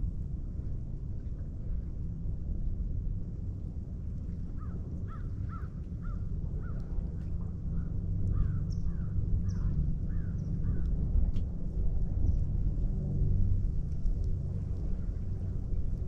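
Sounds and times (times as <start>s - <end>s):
constant low rumble: 0.0s - 16.0s.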